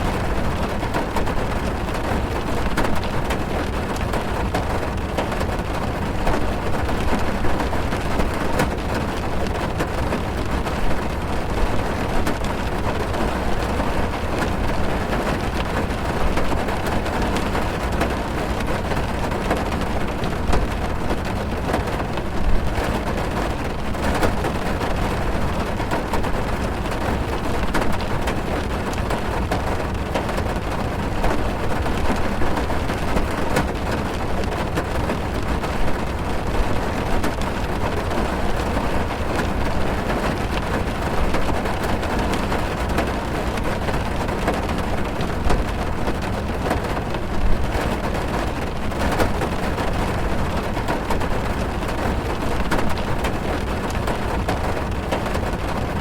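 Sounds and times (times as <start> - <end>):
heavy rain on car roof: 0.0 - 56.0.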